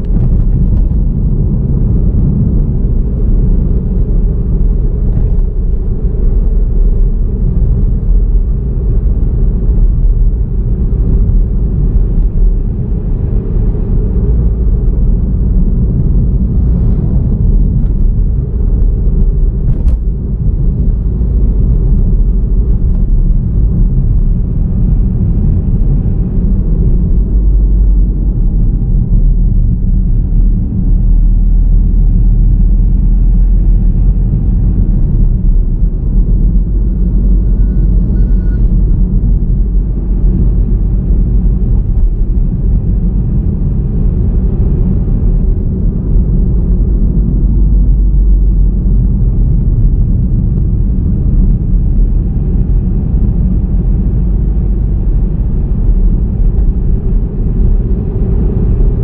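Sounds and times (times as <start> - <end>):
car driving on road: 0.0 - 59.0.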